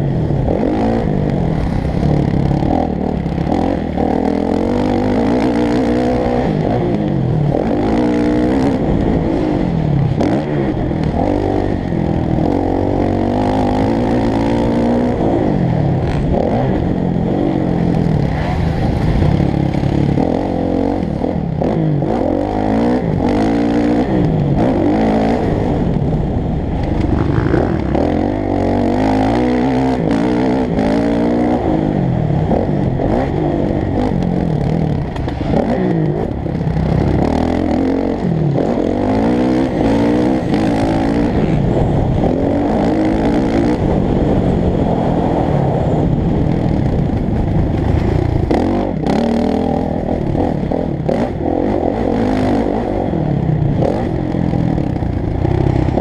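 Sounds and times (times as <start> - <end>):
muffled motorbike engine revving: 0.0 - 56.0.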